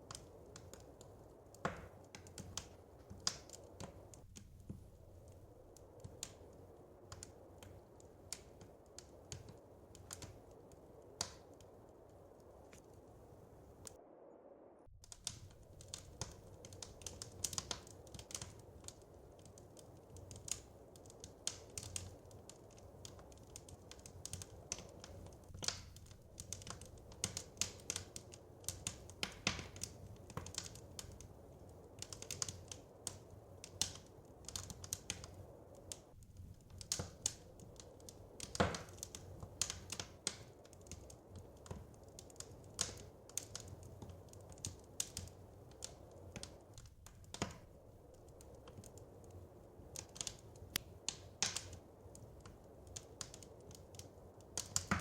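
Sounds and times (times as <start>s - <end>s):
wood fire crackling: 0.0s - 14.4s, 15.0s - 55.0s.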